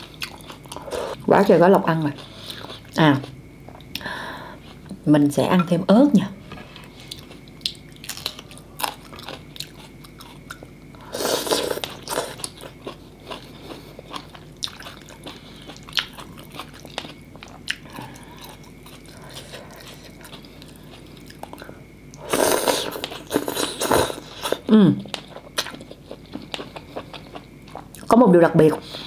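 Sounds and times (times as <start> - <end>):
crunchy chewing of greens: 0.0 - 4.9, 6.5 - 29.0.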